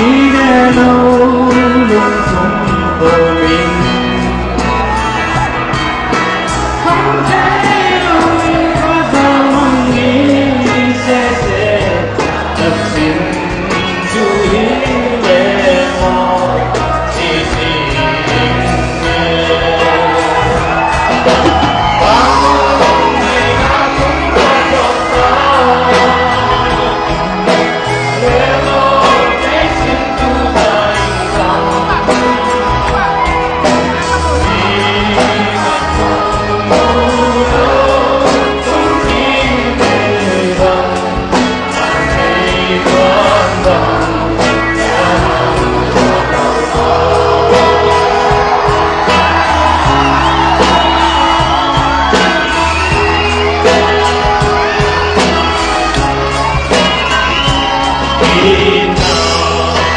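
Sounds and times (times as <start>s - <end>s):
man singing: 0.0s - 5.4s, 6.4s - 59.9s
rock band playing live: 0.0s - 59.9s.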